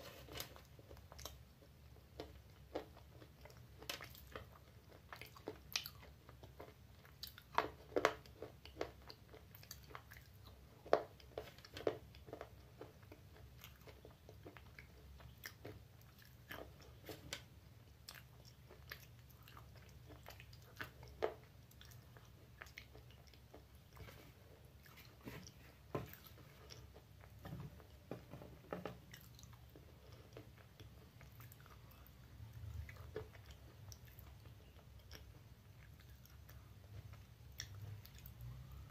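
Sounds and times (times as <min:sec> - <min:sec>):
person crunching and chewing clay: 0:00.1 - 0:38.9.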